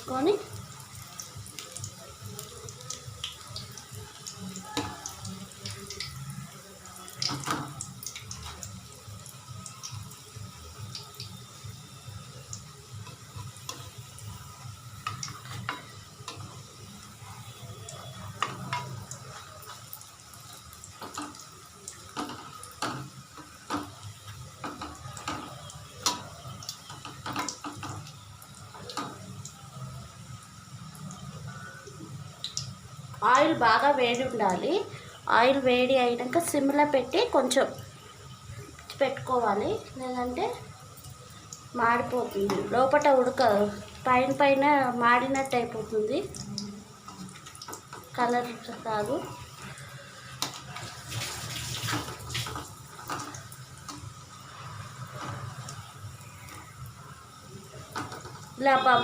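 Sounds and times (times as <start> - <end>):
spring rolls deep-frying in oil: 0.0 - 59.0.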